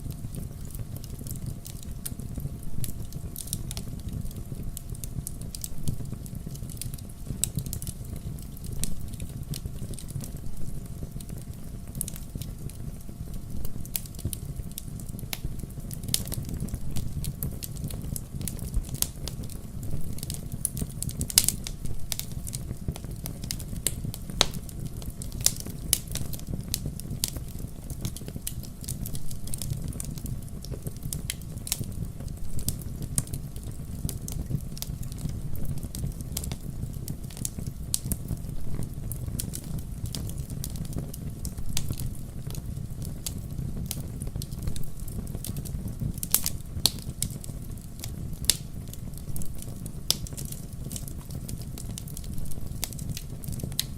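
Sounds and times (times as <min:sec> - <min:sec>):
firewood crackling and popping: 0:00.0 - 0:53.9
low steady fire rumble: 0:00.0 - 0:53.9.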